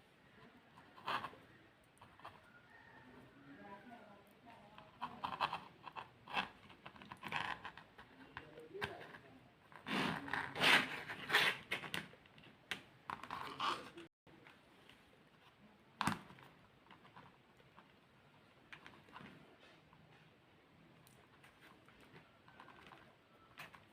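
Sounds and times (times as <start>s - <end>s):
handling noises scraping and rustling: 4.6s - 23.9s.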